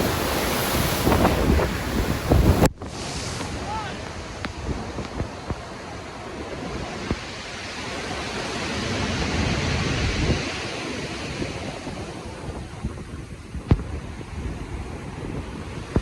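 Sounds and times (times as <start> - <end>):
low wind rumble: 0.0 - 16.0
waves rushing: 0.0 - 16.0.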